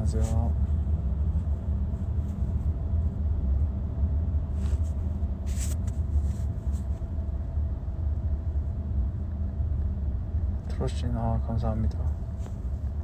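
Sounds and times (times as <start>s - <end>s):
car road rumble from cabin: 0.0s - 13.0s.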